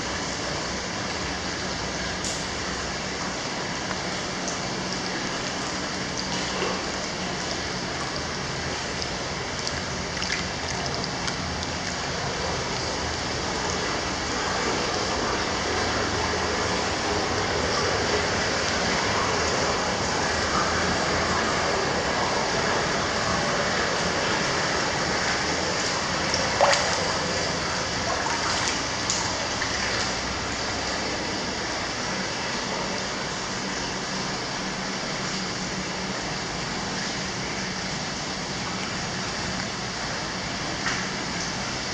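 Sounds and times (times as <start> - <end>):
water pouring into a bath tub: 0.1 - 41.9.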